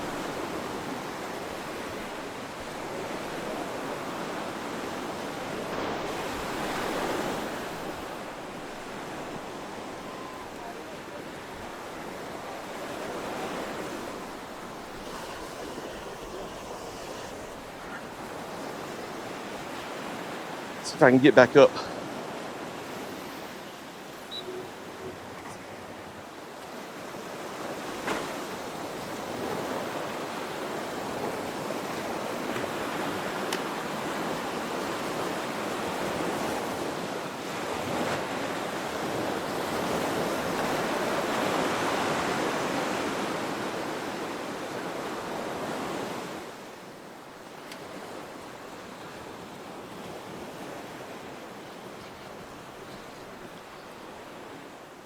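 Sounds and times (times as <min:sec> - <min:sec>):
surf on the beach: 0:00.0 - 0:55.0
wind: 0:00.0 - 0:55.0.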